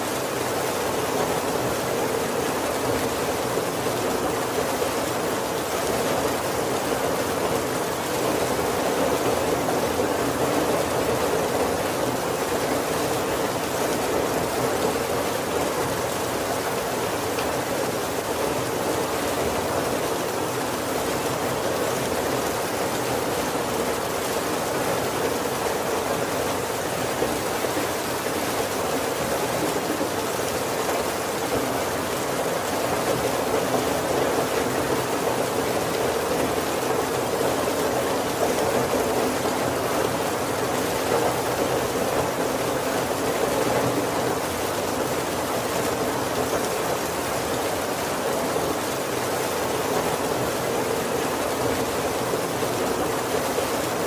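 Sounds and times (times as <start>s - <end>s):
heavy rain on a wooden roof: 0.0s - 54.0s.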